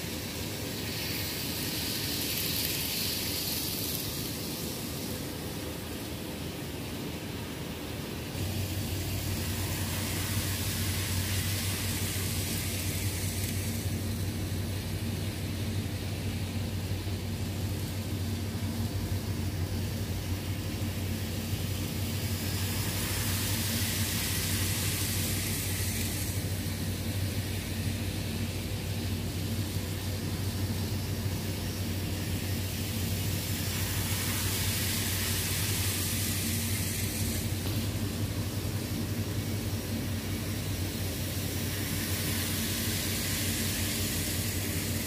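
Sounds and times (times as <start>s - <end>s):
model train electrical hum: 0.0s - 45.0s
model train rushing noise: 0.0s - 45.0s.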